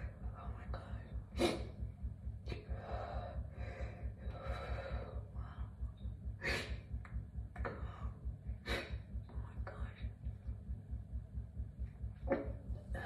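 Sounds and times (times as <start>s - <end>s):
woman breathing heavily and shakily: 0.0s - 10.7s.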